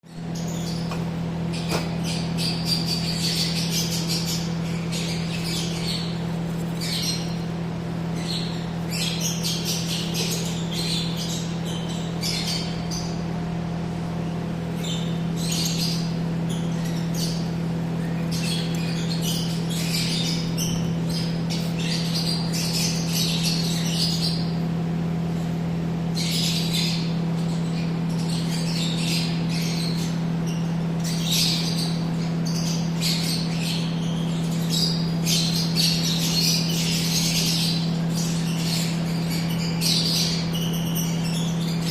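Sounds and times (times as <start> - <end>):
steady low hum: 0.0 - 41.9
lovebirds chattering and squawking: 0.1 - 41.9.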